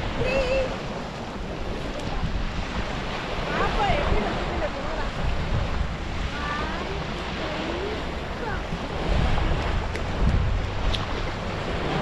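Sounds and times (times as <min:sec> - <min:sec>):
small waves breaking on sand: 0:00.0 - 0:12.0
wind buffeting microphone: 0:00.0 - 0:12.0.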